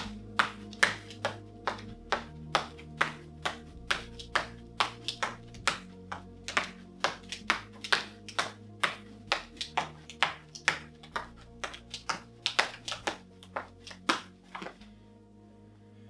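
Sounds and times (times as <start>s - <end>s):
jump rope slapping floor: 0.0s - 14.8s
quiet background music: 0.0s - 16.0s.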